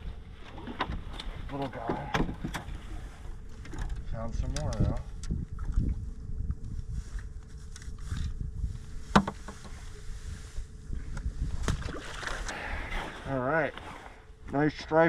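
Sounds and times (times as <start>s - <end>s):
wind rumble on microphone: 0.0s - 14.8s
faint steady hum: 0.0s - 15.0s.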